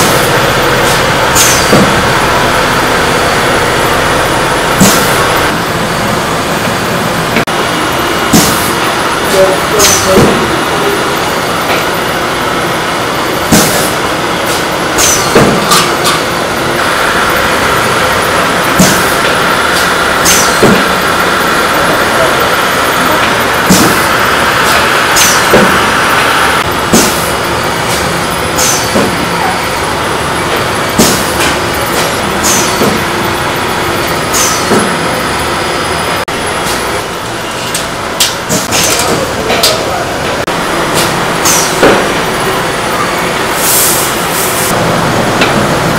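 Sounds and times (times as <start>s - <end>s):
machine running: 0.0s - 45.9s.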